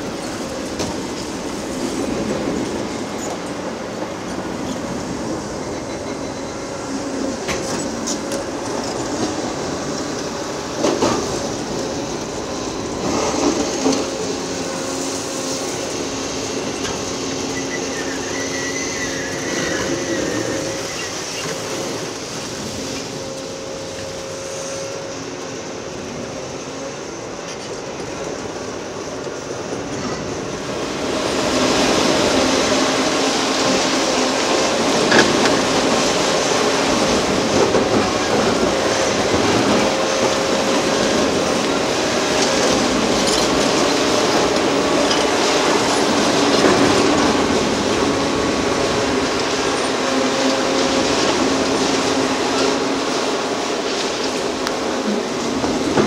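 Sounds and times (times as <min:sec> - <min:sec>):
excavator engine and hydraulics whine: 0:00.0 - 0:56.0.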